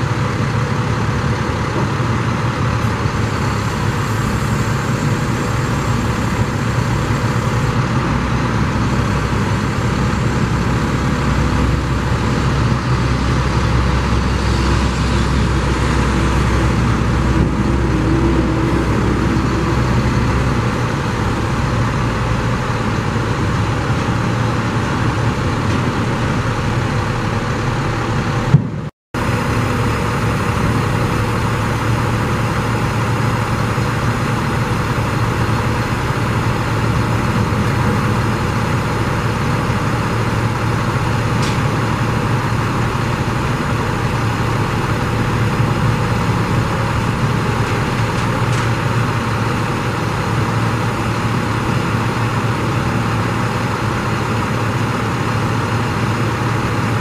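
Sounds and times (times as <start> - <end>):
diesel truck engine running: 0.0 - 57.0
hydraulics working: 0.0 - 57.0.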